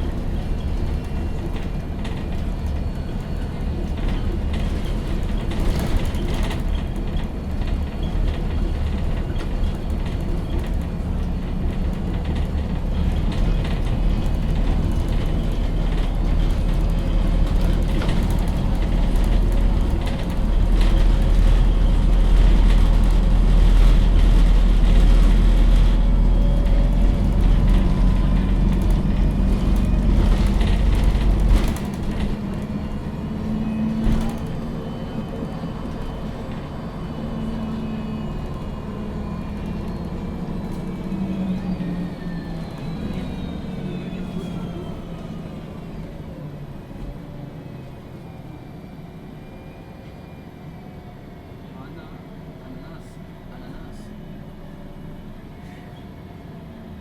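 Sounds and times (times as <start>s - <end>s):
bus engine droning: 0.0s - 57.0s
road noise: 0.0s - 57.0s.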